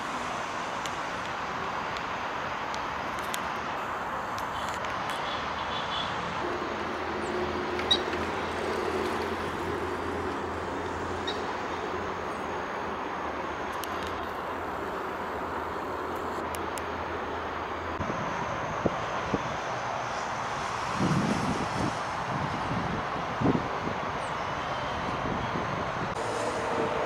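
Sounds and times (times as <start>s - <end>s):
city traffic rushing: 0.0s - 27.0s.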